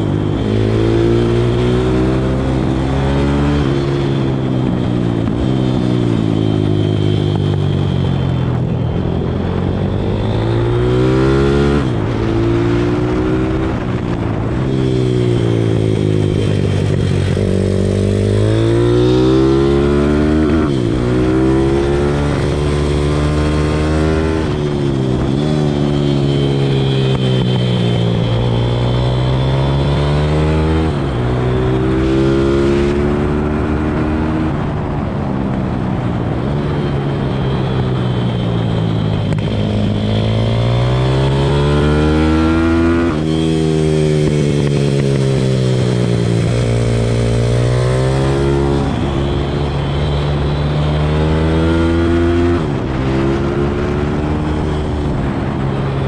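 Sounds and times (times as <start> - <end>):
motorbike engine revving: 0.0 - 35.0, 39.2 - 56.0.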